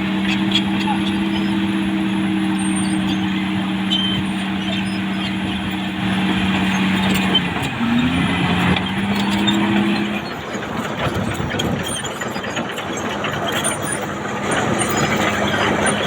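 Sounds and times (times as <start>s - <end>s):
bulldozer engine whine: 0.0s - 16.0s.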